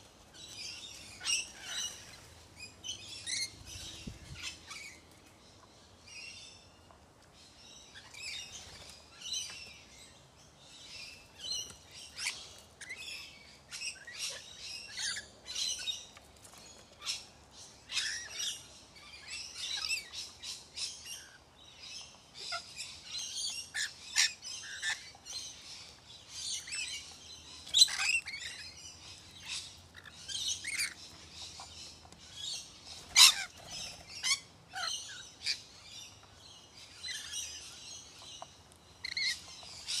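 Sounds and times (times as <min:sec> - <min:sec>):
parrots chattering and screeching: 0:00.3 - 0:05.0, 0:11.0 - 0:16.1, 0:17.0 - 0:40.0.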